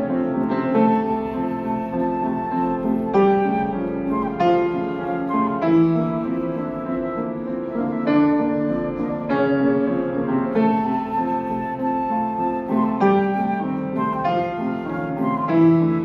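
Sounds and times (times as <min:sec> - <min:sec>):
slow piano piece: 0:00.0 - 0:16.0.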